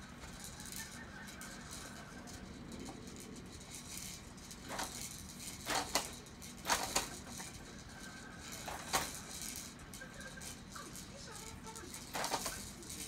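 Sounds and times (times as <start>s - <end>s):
plastic baby jumper rattling: 0.0s - 13.0s.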